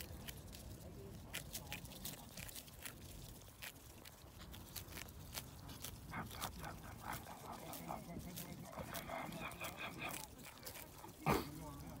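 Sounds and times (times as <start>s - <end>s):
birds tearing grass: 0.0s - 12.0s.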